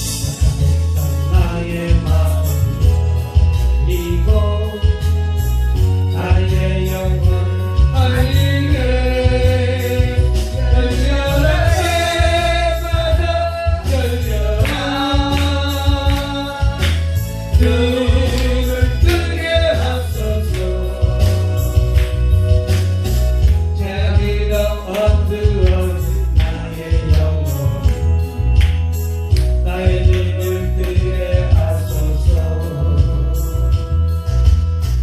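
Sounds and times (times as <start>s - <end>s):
backing track with heavy bass: 0.0s - 35.0s.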